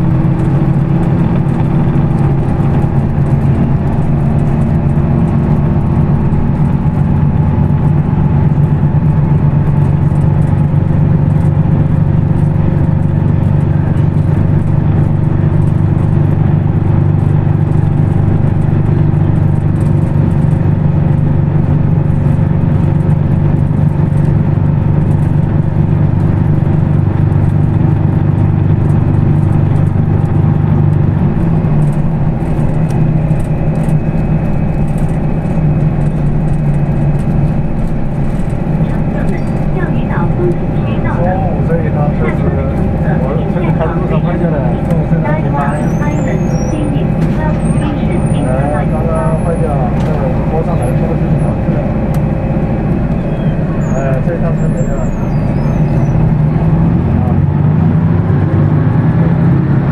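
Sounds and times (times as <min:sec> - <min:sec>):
bus engine droning: 0:00.0 - 0:59.9.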